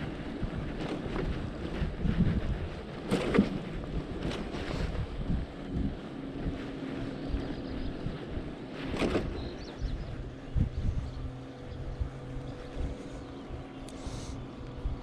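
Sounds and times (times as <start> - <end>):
low hum of bicycle ride: 0.0 - 15.0
wind buffeting microphone: 0.0 - 15.0.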